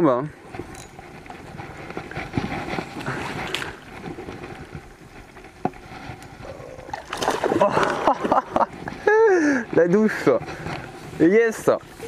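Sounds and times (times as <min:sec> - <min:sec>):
water sloshing: 0:01.1 - 0:12.0.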